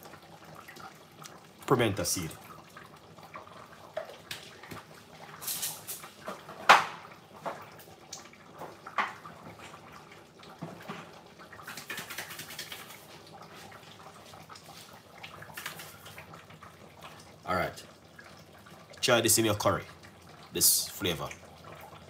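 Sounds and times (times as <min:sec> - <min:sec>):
pot bubbling at a simmer: 0:00.0 - 0:22.0.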